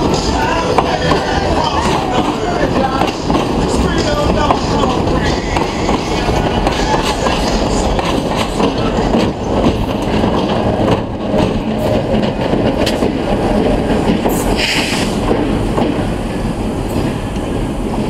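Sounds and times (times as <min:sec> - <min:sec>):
diesel locomotive rumbling past: 0:00.0 - 0:18.0.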